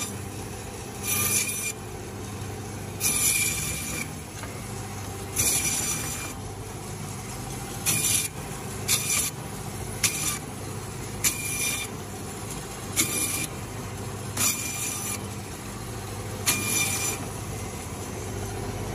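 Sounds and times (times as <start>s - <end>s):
bandsaw motor hum: 0.0s - 18.9s.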